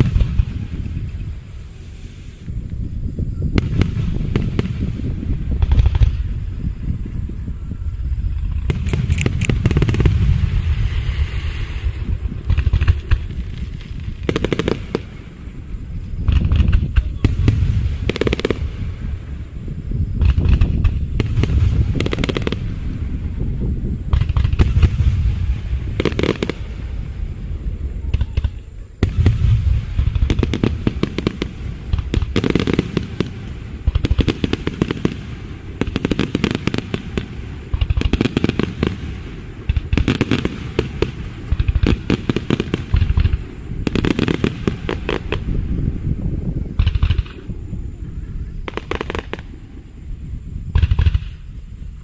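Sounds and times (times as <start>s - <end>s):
fireworks booming: 0.0s - 52.0s
fireworks crackling: 0.0s - 52.0s.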